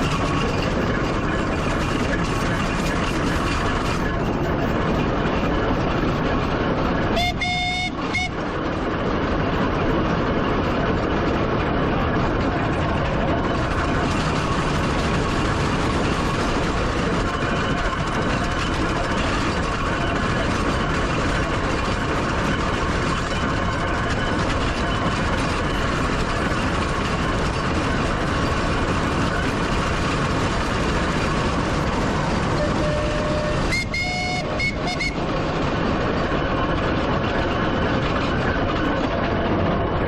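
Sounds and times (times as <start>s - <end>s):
steam traction engine running: 0.0s - 40.0s.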